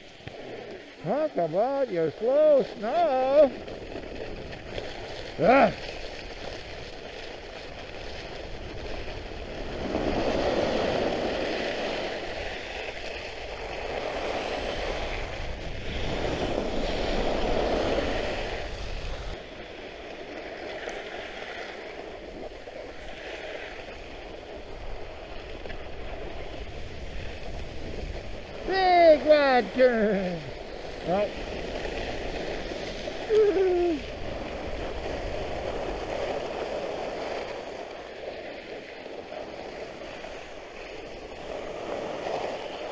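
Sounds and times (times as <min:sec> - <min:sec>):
skis hissing over snow: 0:00.0 - 0:42.9
wind rumbling on microphone: 0:00.0 - 0:42.9.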